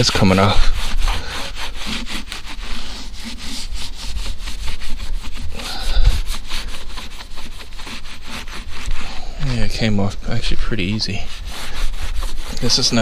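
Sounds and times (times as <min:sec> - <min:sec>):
towel scrubbing rubber tire: 0:00.0 - 0:13.0.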